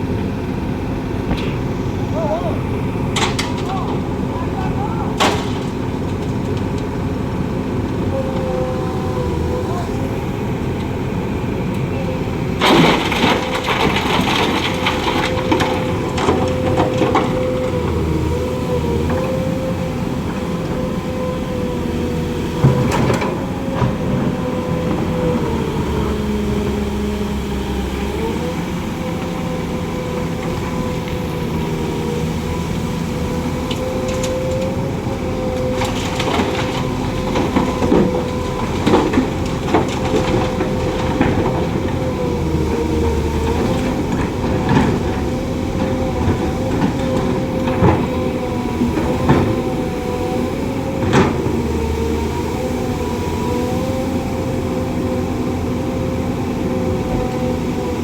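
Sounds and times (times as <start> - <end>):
low engine rumble: 0.0 - 58.0
truck drivetrain whine: 0.0 - 58.0
truck body knocking and rattling: 0.2 - 8.5, 9.5 - 32.3, 32.9 - 52.3.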